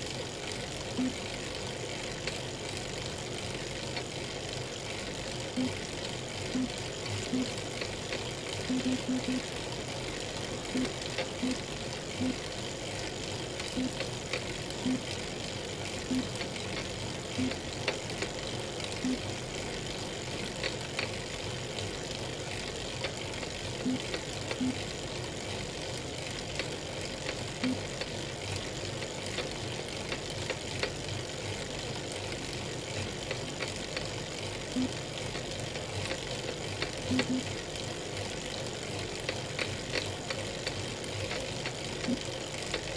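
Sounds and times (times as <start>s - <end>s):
bike trainer whirring: 0.0s - 42.9s.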